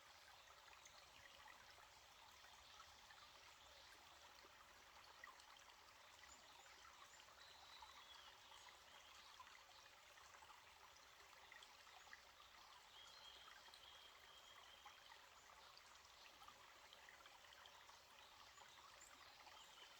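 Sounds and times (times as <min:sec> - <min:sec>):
stream trickling: 0:00.0 - 0:19.9.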